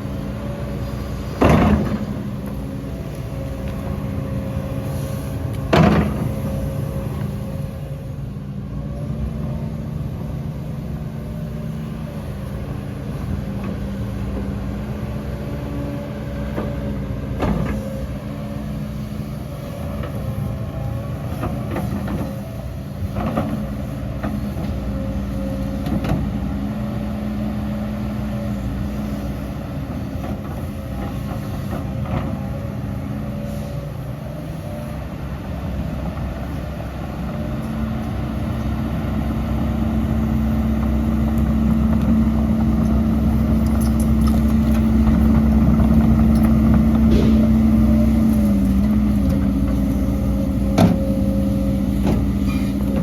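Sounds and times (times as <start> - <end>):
diesel earthmoving machinery running: 0.0 - 53.0.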